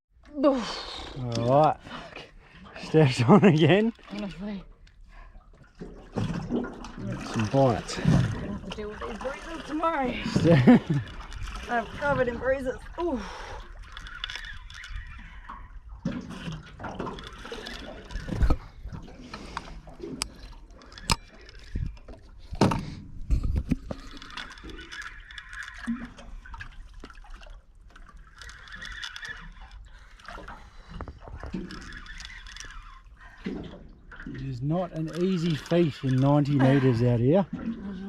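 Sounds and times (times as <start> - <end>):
water lapping against boat hull: 0.1 - 38.0.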